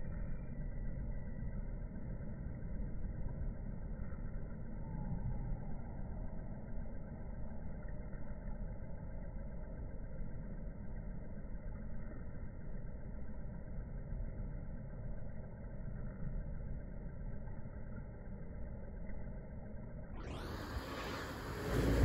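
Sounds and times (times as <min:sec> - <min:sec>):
muffled low outdoor rumble: 0:00.0 - 0:22.0.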